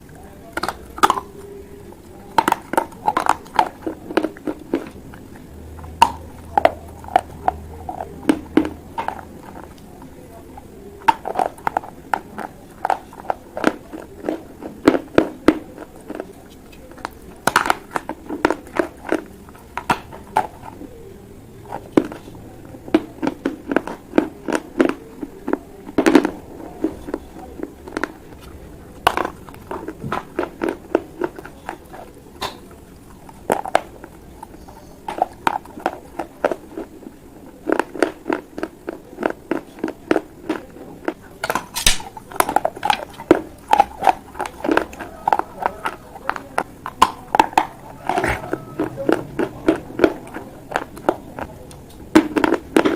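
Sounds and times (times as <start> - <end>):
crunching and chewing clay: 0.0 - 52.9.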